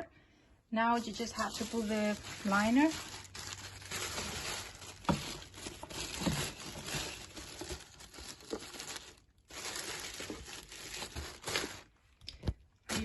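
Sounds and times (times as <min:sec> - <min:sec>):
plastic bag crinkling: 0:00.9 - 0:13.0.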